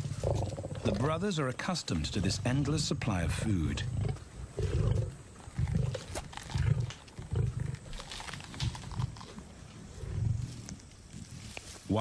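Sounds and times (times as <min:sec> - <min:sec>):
lions growling: 0:00.0 - 0:01.3, 0:01.9 - 0:11.5.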